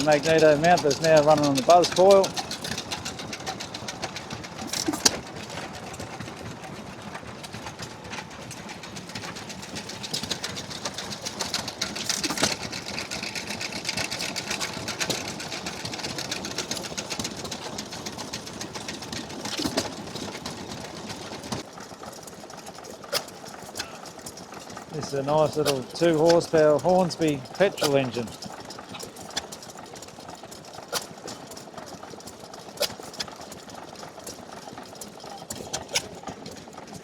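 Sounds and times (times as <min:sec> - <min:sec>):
engine knock: 0:00.0 - 0:37.0
engine mechanical clatter: 0:00.0 - 0:37.0.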